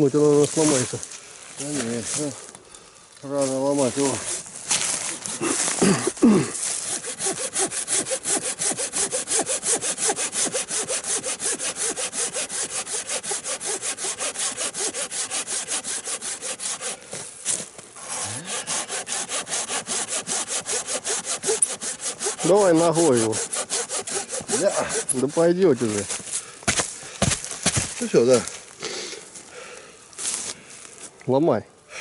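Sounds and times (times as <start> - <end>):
hand saw cutting wood: 0.4 - 1.0, 3.4 - 28.5.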